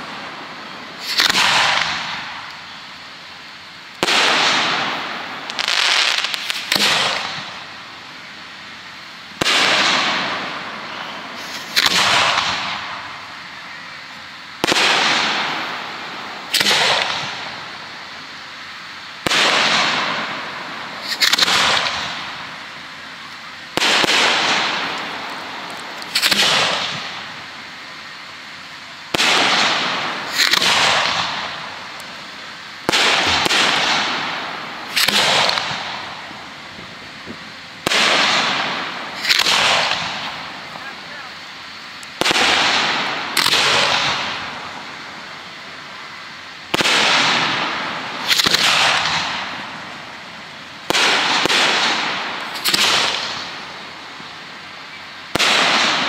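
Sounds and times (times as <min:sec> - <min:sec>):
firework bangs with hiss: 0:00.0 - 0:56.0.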